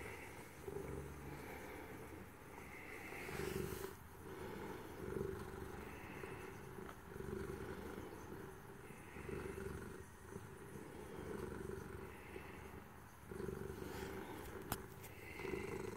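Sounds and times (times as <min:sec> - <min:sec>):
cat purring: 0:00.0 - 0:15.9.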